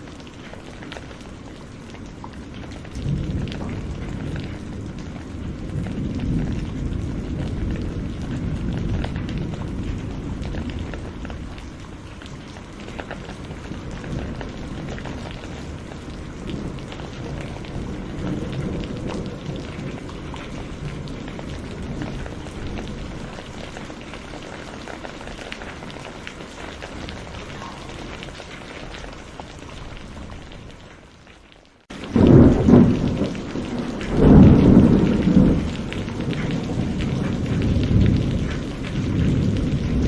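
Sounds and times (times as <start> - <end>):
heavy rain falling: 0.0 - 40.0.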